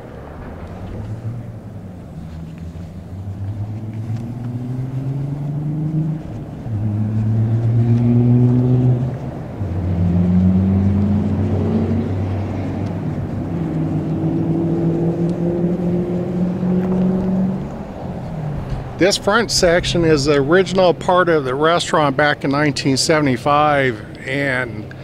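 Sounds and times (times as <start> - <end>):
vehicle engine accelerating: 0.0 - 25.0.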